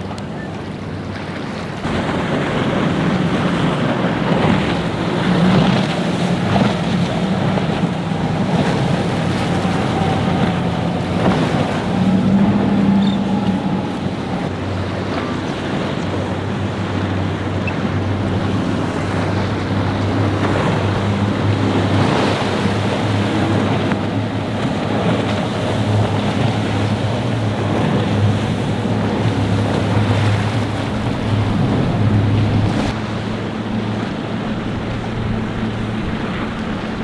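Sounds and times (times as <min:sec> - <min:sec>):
boat engine humming: 0:00.0 - 0:37.0
waves breaking: 0:00.0 - 0:37.0
wind buffeting microphone: 0:00.0 - 0:37.0.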